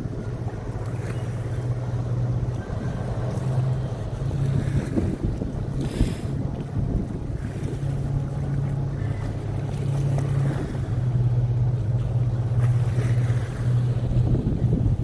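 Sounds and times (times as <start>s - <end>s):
wind on microphone: 0.0s - 9.7s, 12.6s - 15.0s
large engine humming: 0.0s - 15.0s.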